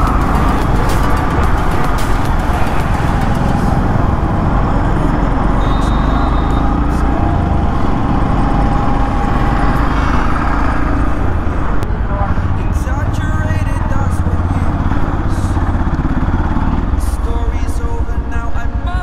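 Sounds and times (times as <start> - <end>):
motorcycle engine: 0.0 - 18.7
other vehicles: 0.0 - 19.0.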